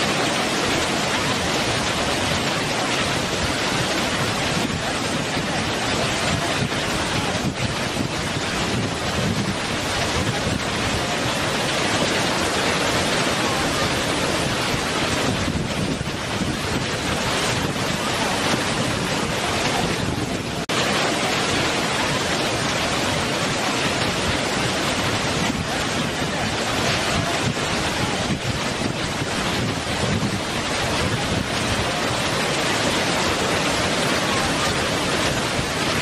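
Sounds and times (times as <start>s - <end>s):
waterfall rushing over rock: 0.0s - 36.0s.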